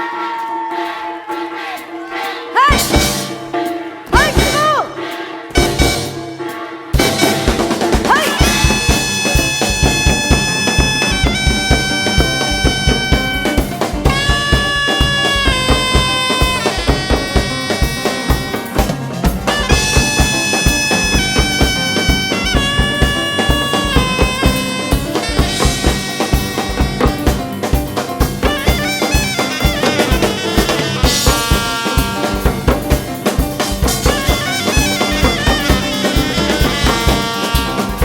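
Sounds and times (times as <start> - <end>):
steady drum beat: 0.0 - 38.0
reed wind instrument bending notes: 7.0 - 38.0.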